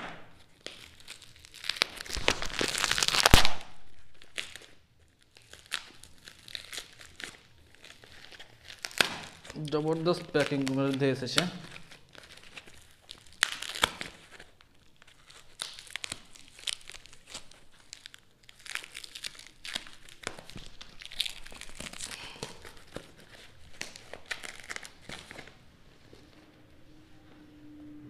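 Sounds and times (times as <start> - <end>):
plastic wrap crinkling and tearing: 0.3 - 26.5.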